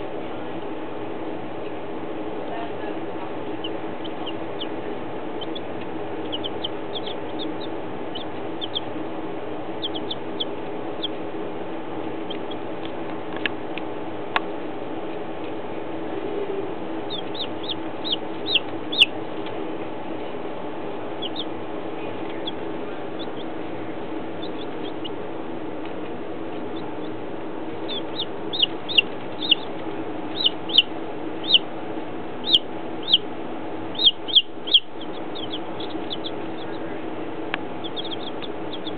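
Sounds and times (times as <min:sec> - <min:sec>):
steady low hum: 0:00.0 - 0:38.9
baby chicks peeping: 0:02.6 - 0:15.6, 0:16.2 - 0:38.9.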